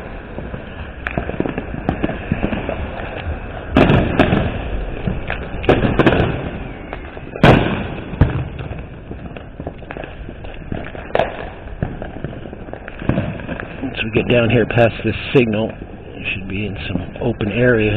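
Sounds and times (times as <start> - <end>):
fireworks bangs: 0.0 - 17.9
fireworks pops and crackles: 0.0 - 17.9.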